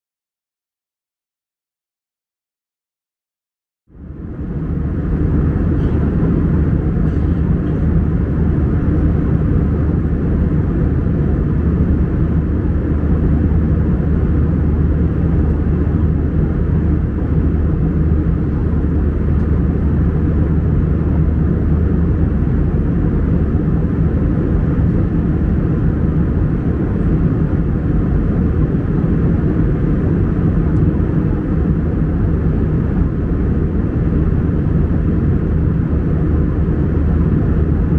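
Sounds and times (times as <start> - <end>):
airplane cabin rumble: 3.9 - 37.9.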